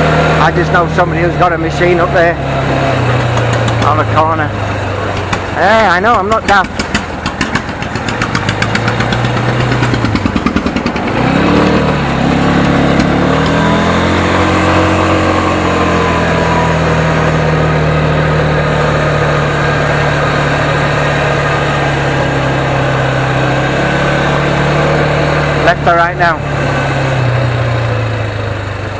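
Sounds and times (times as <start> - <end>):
vehicle engine idling and revving: 0.0 - 28.9.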